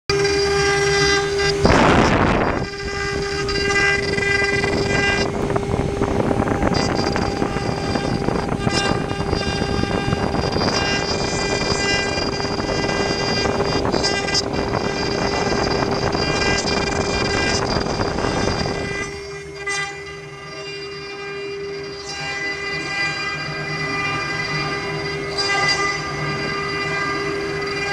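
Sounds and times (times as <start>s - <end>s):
router spindle whine: 0.0s - 27.9s
bit grinding into wood: 0.1s - 27.9s.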